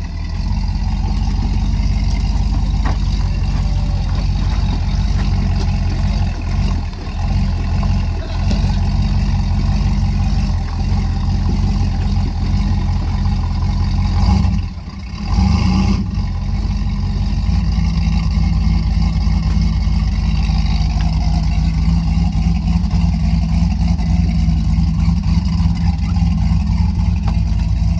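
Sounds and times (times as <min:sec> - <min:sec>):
suv engine running: 0:00.0 - 0:27.9.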